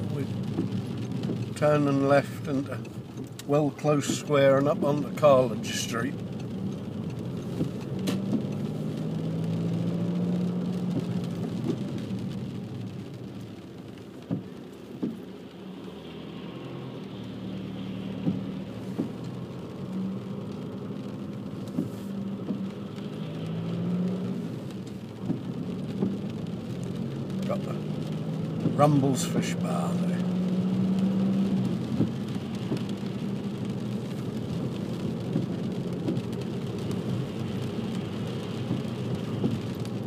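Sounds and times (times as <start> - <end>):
car engine hum: 0.0 - 40.0
tyre noise on wet road: 0.0 - 40.0.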